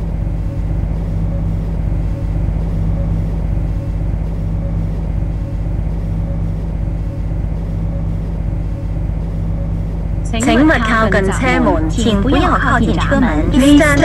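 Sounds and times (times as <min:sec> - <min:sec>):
soft low pulse: 0:00.0 - 0:14.0
train equipment humming: 0:00.0 - 0:14.0.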